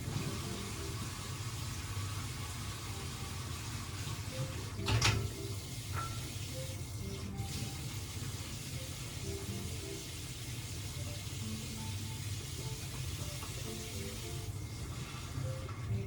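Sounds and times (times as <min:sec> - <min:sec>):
faint background music: 0:00.0 - 0:16.0
water running from tap: 0:00.0 - 0:16.0.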